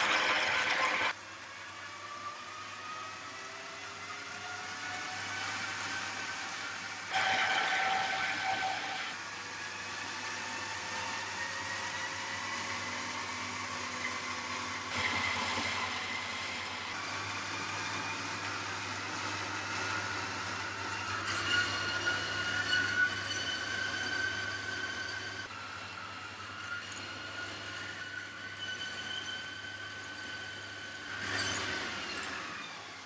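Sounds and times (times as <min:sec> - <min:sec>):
treadmill motor whining: 0:00.0 - 0:33.0.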